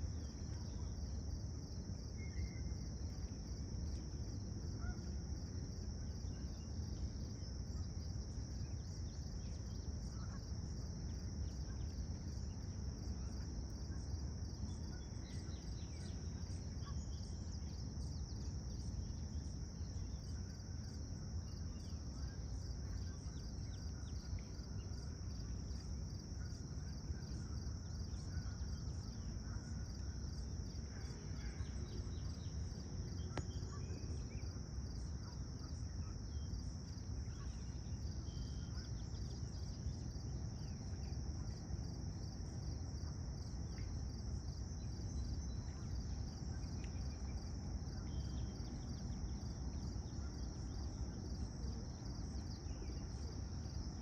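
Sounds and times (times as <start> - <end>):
insects trilling: 0.2 - 54.0.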